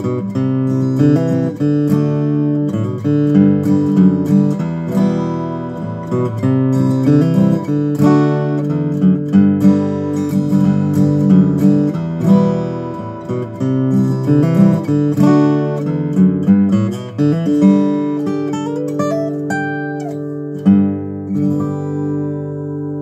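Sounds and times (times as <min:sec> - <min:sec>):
fingerstyle acoustic guitar: 0:00.0 - 0:23.0.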